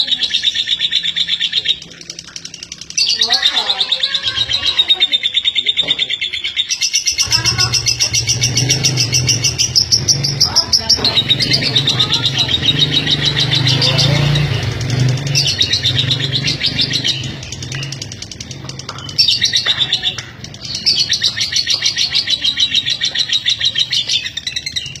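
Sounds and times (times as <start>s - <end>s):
lovebird rattling chatter: 0.0s - 25.0s.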